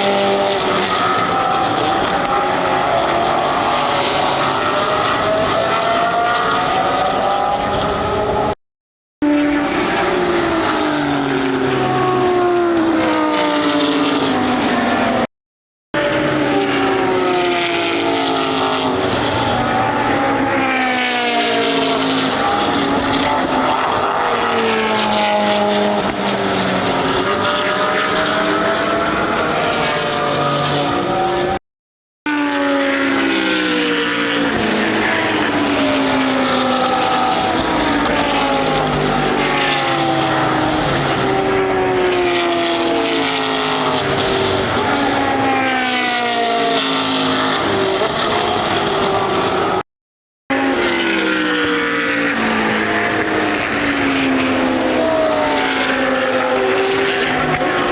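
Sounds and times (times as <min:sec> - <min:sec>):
race car engines passing: 0:00.0 - 0:08.6, 0:09.2 - 0:15.3, 0:16.0 - 0:31.6, 0:32.3 - 0:49.8, 0:50.5 - 0:57.9.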